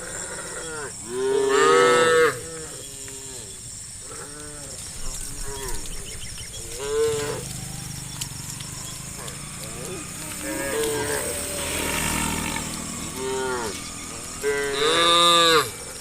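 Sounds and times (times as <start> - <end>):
cows mooing: 0.0 - 16.0.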